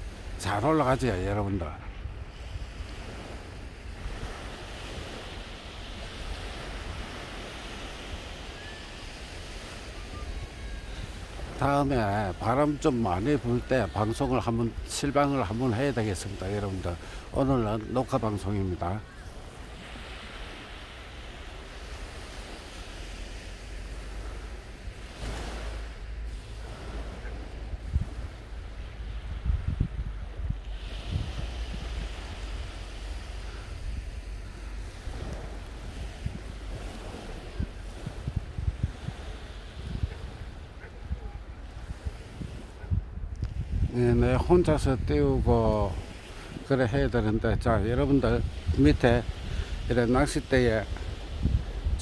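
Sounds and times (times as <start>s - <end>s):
surf washing on beach: 0.0s - 52.0s
wind buffeting microphone: 1.3s - 18.1s, 19.0s - 52.0s.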